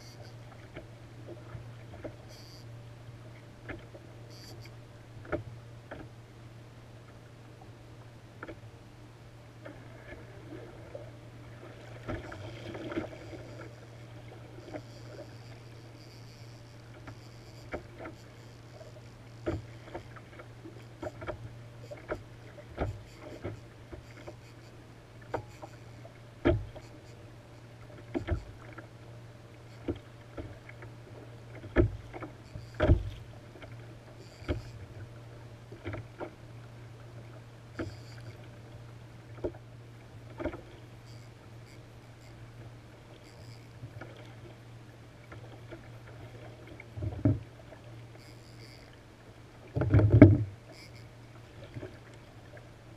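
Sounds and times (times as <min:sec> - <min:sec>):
steady low hum: 0:00.0 - 0:52.9
water slapping kayak hull: 0:09.5 - 0:52.9.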